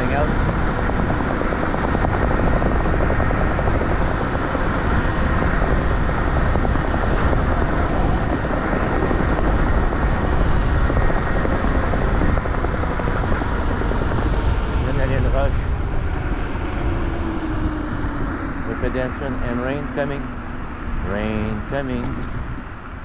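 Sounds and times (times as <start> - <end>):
scooter tyre and road noise: 0.0 - 23.0
wind rumble on microphone: 0.0 - 23.0.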